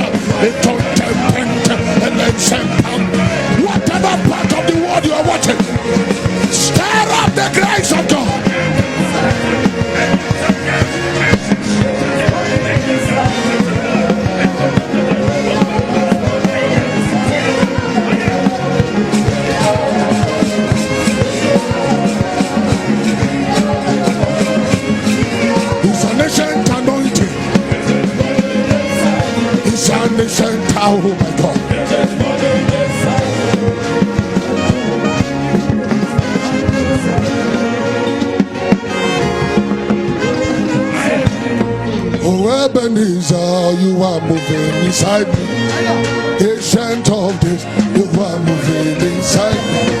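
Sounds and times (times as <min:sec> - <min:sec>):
brass horns: 0:00.0 - 0:50.0
church praise band music: 0:00.0 - 0:50.0
driving drum beat: 0:00.0 - 0:50.0.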